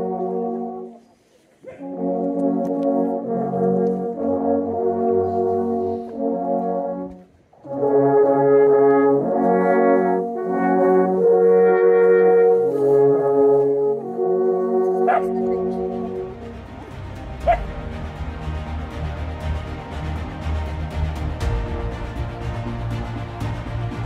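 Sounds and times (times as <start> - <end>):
alphorns playing held chords: 1.9 - 24.0.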